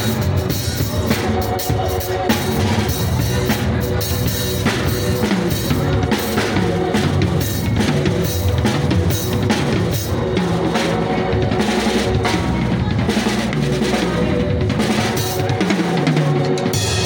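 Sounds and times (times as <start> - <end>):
drum kit groove: 0.0 - 17.0.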